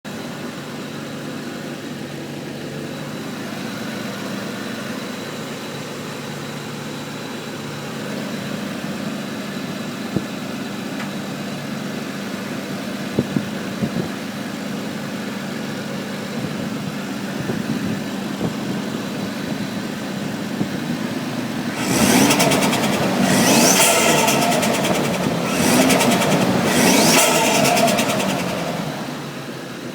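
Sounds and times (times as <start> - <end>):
car engine idling and revving: 0.1 - 29.9.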